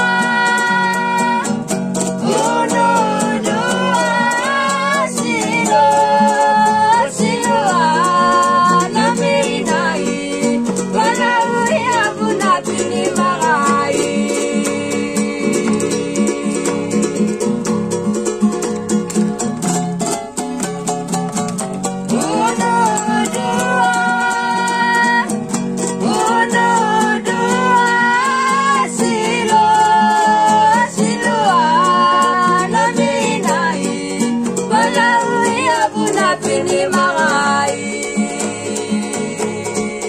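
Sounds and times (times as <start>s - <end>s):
voices singing together: 0.0s - 18.0s, 21.8s - 40.0s
ukulele and guitar strumming: 0.0s - 40.0s.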